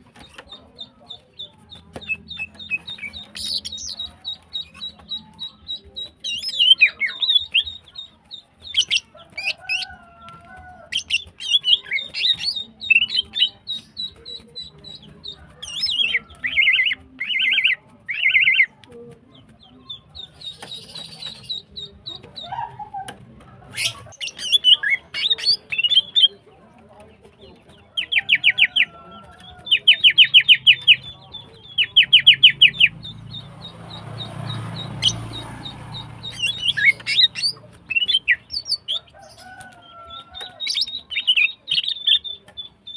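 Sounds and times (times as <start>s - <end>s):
bird chattering and trilling: 0.0s - 26.5s, 27.1s - 42.9s.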